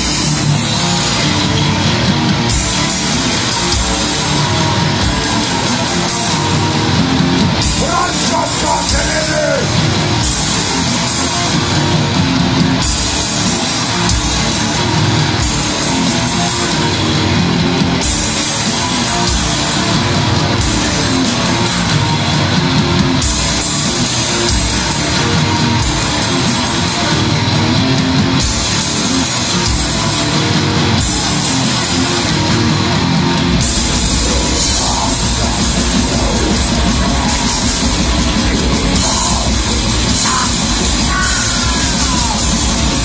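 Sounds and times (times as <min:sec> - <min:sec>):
heavy metal band playing live: 0:00.0 - 0:43.0.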